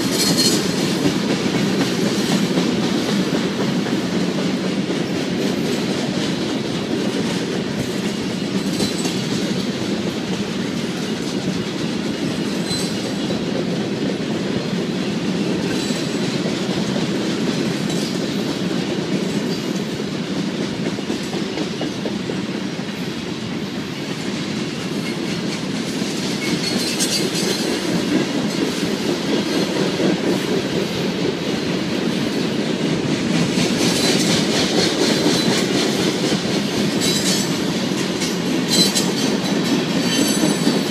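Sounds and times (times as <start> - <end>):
wheels clacking over rail joints: 0.0 - 22.9, 24.0 - 40.9
freight train rumbling past: 0.0 - 40.9.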